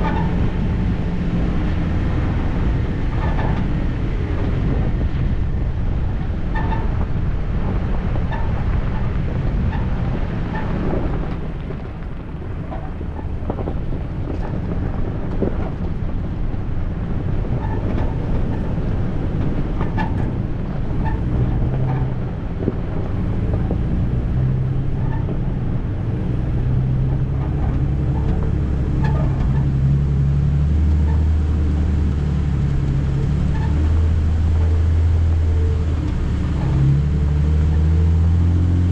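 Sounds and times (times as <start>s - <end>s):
tyres rumbling on dirt: 0.0s - 38.9s
vehicle engine running: 0.0s - 38.9s.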